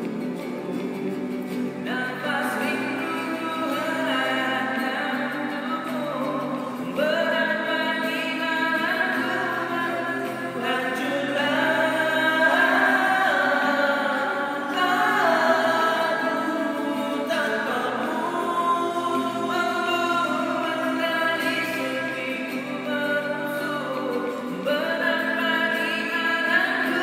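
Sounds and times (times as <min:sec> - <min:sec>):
acoustic guitars: 0:00.0 - 0:27.0
man singing: 0:00.0 - 0:27.0.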